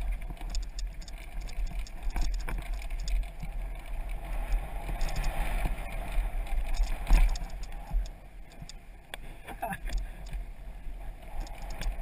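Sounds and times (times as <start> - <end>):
bike clicks and rattles: 0.0 - 10.4, 11.2 - 12.0.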